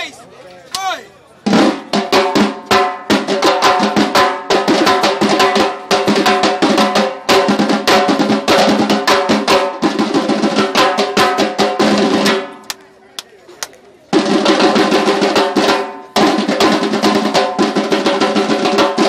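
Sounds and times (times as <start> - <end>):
samba drum section playing: 1.4 - 12.6, 14.1 - 19.0.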